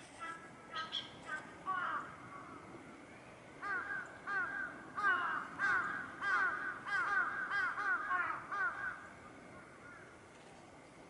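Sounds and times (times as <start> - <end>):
flock of birds calling: 0.0 - 2.8, 3.6 - 10.2.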